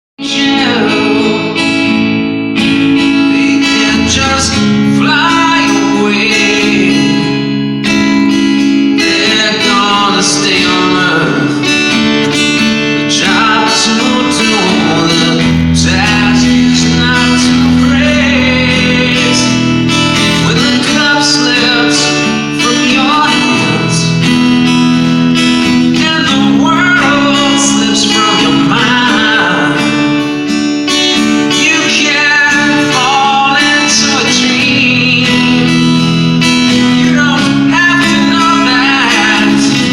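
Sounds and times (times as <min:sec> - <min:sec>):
man singing: 0:00.2 - 0:39.9
strummed guitar chords: 0:00.2 - 0:39.9.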